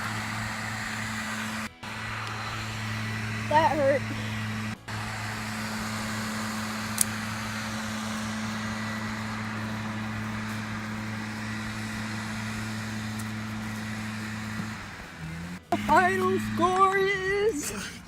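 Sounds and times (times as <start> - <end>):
low mechanical hum with hiss: 0.0 - 18.0.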